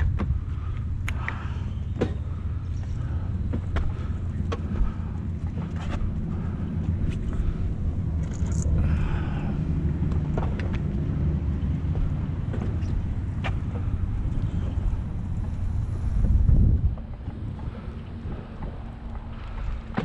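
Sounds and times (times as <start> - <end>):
bicycle riding noise: 0.0 - 20.0
wind rumble: 0.0 - 20.0.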